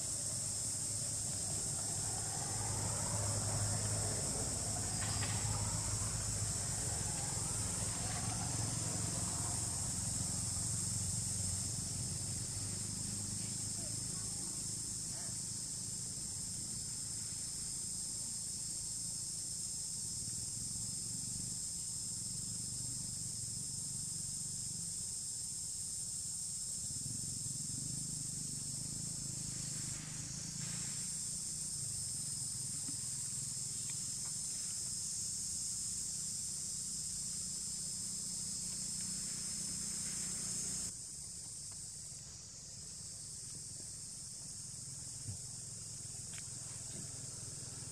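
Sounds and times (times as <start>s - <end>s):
insect chorus drone: 0.0s - 47.9s.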